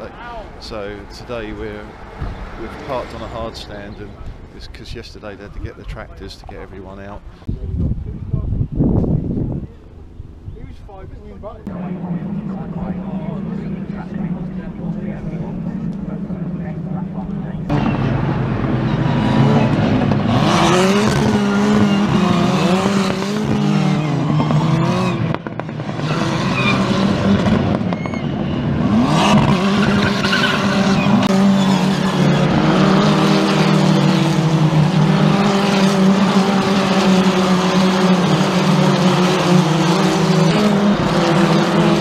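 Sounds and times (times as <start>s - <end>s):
race cars passing: 0.0s - 7.5s, 11.6s - 42.0s.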